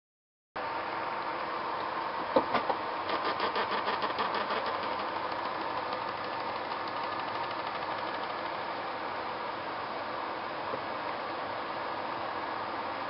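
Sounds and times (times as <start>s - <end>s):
steady mechanical hum: 0.6s - 13.0s.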